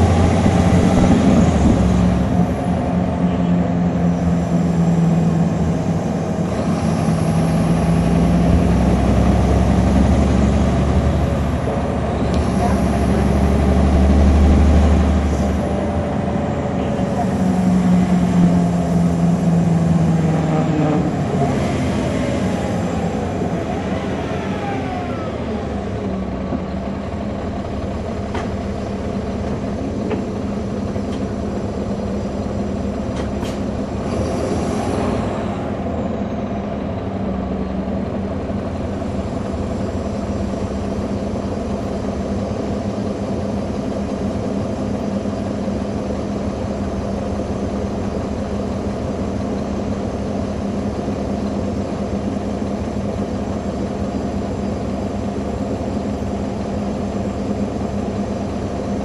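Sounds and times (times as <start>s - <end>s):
bus transmission whine: 0.0s - 59.0s
diesel engine droning: 0.0s - 59.0s.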